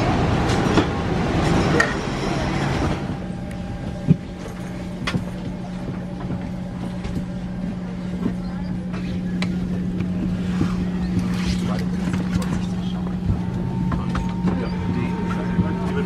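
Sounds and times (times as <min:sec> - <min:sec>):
busy rushing hubbub: 0:00.0 - 0:16.0
cabin air system hum: 0:02.3 - 0:16.0.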